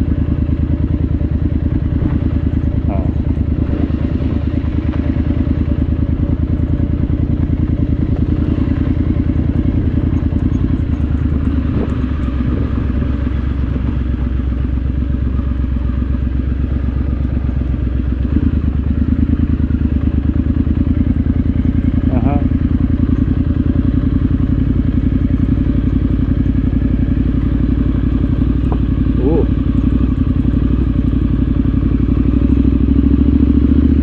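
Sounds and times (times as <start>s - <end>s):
motorcycle engine running at low revs: 0.0s - 34.0s.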